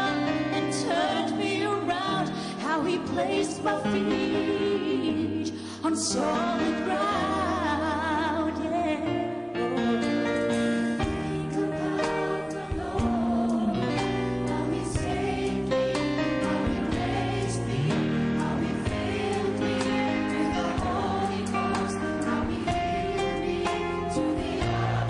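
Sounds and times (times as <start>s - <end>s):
mixed choir singing: 0.0s - 8.4s, 11.0s - 25.0s.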